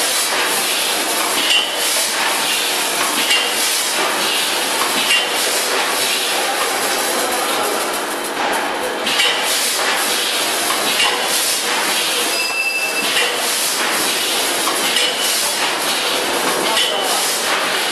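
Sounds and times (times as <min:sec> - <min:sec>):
packing machine clattering: 0:00.1 - 0:17.9.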